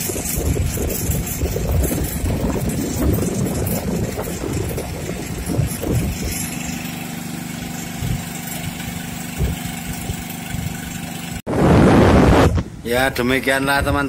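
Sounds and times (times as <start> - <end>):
boat engine humming: 0.0 - 11.5
wind buffeting microphone: 0.0 - 14.0.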